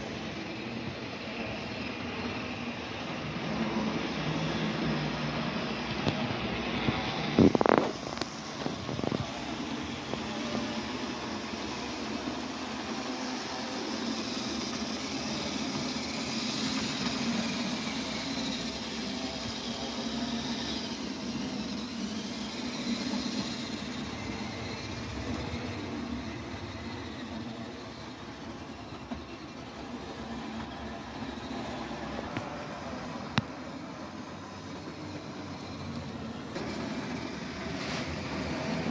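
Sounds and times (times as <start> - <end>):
model train motor hum: 0.0 - 38.9
wheels rolling on track: 0.0 - 38.9.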